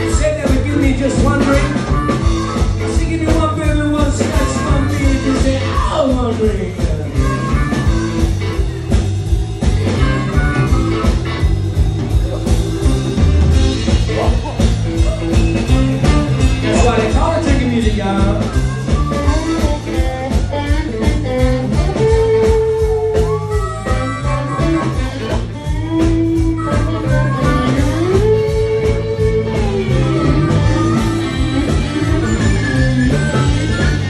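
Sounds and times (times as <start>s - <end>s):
bass line: 0.0s - 34.0s
bending lead line: 0.0s - 34.0s
drums steady beat: 0.0s - 34.0s.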